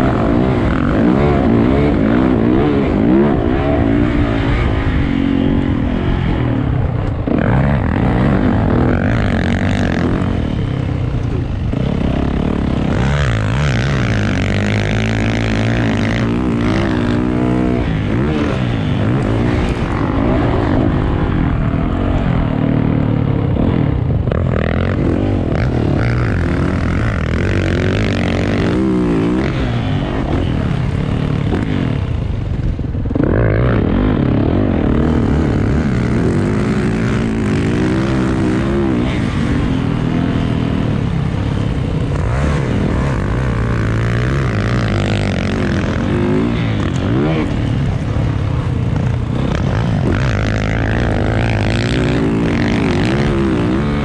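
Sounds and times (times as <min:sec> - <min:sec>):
engine revving: 0:00.0 - 0:54.0
steady rush of noise: 0:00.0 - 0:54.0.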